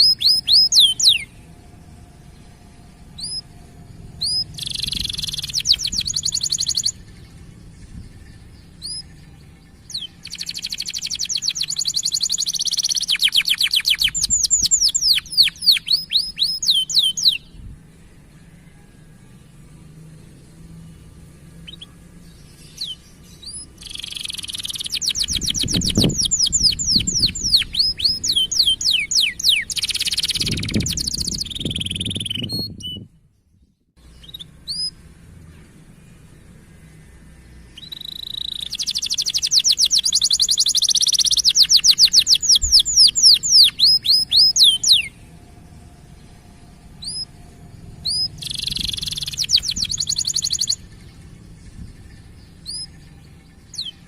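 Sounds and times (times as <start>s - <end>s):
canary trilling song: 0.0s - 33.4s, 34.0s - 54.0s.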